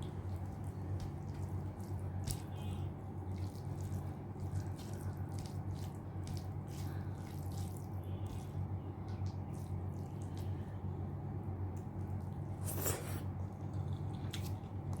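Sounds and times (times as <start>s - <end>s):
person chewing food: 0.0s - 10.9s, 11.8s - 15.0s
steady low hum: 0.0s - 15.0s.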